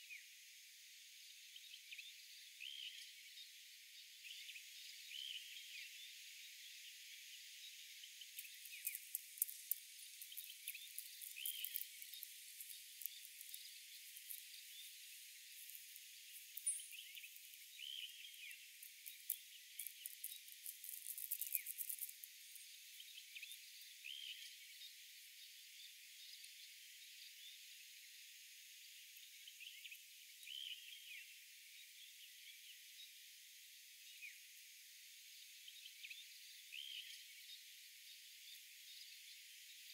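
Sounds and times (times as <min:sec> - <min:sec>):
thin steady hiss: 0:00.0 - 0:39.9.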